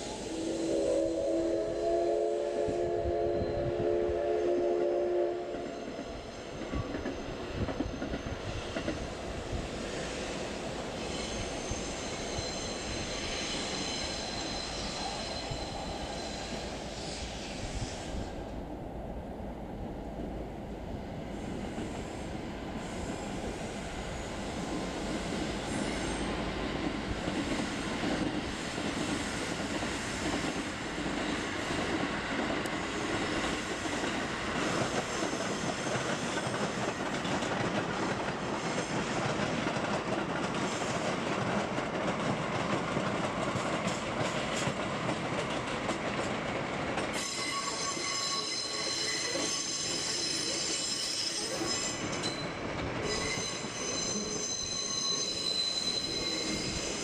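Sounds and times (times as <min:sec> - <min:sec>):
high squealing from train wheels: 0:00.0 - 0:18.6, 0:21.2 - 0:42.6, 0:43.2 - 0:57.0
train wheels rumbling on rails: 0:00.0 - 0:57.0.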